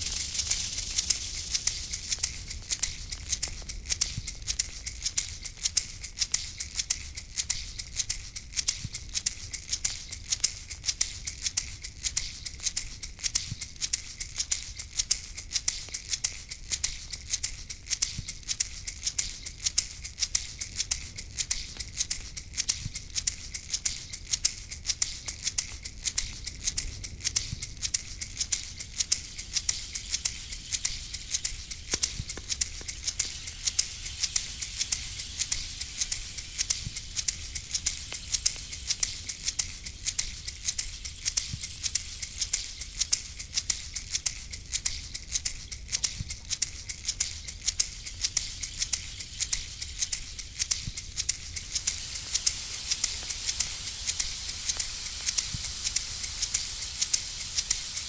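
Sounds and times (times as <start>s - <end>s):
rattle shaken rhythmically: 0.0s - 58.0s.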